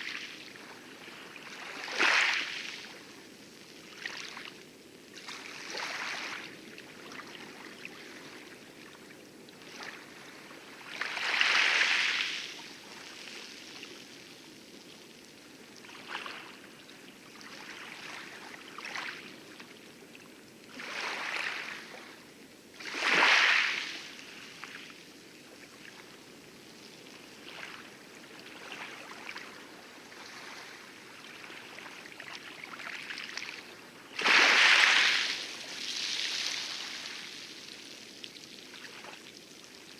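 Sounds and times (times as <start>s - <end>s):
waves lapping on coral: 0.0s - 39.9s.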